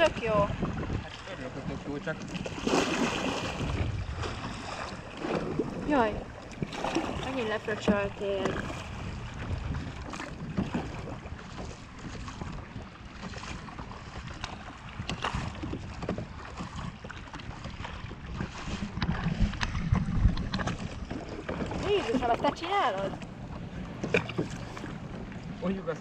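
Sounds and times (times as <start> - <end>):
paddle strokes splashing water: 0.0 - 26.0
wind rumbling on microphone: 0.0 - 26.0.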